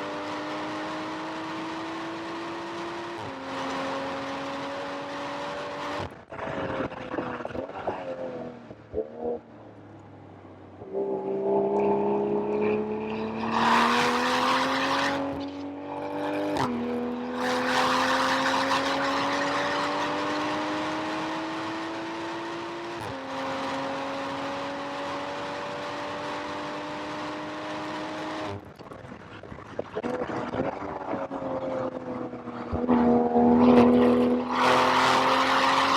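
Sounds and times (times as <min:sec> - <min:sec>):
car engine accelerating: 0:00.0 - 0:10.0, 0:10.7 - 0:28.7, 0:29.4 - 0:35.9.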